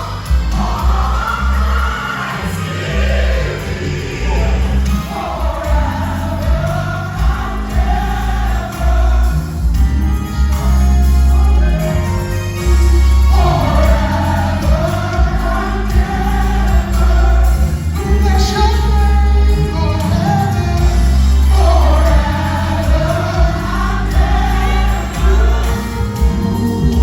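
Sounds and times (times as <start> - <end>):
band with heavy bass: 0.0 - 27.0
group singing gospel in harmony: 0.0 - 27.0.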